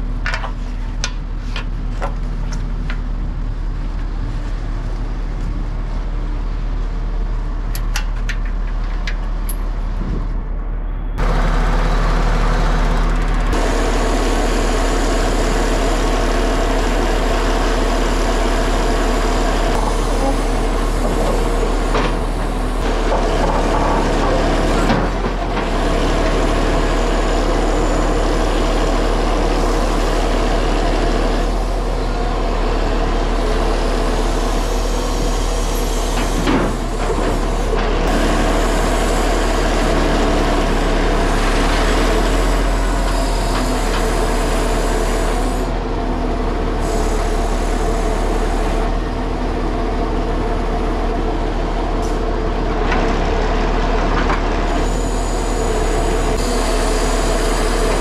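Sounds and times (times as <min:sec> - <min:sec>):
road and tyre noise: 0:00.0 - 0:58.0
truck diesel engine running: 0:00.0 - 0:58.0.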